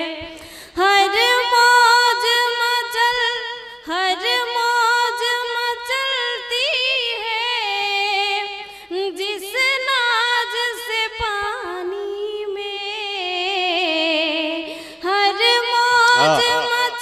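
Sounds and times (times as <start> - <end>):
woman singing unaccompanied: 0.8 - 17.0.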